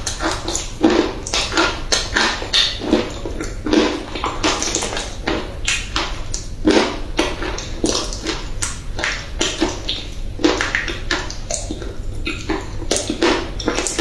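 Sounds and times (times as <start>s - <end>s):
clay crunching when chewed: 0.0s - 14.0s.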